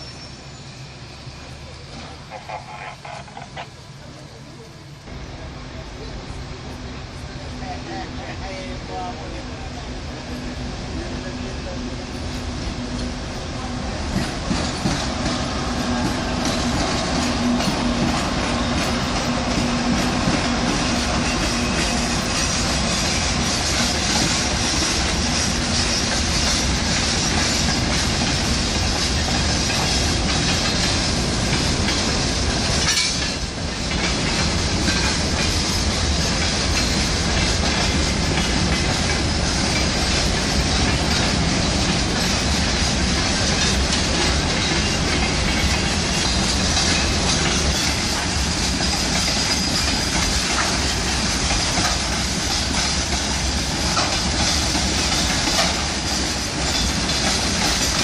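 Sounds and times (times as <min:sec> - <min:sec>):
train wheels clattering on rails: 0:01.3 - 0:04.7, 0:10.2 - 0:58.0.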